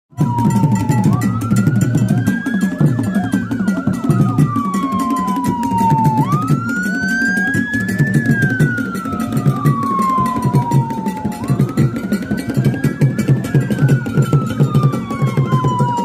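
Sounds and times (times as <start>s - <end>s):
wailing siren: 0.1s - 16.0s.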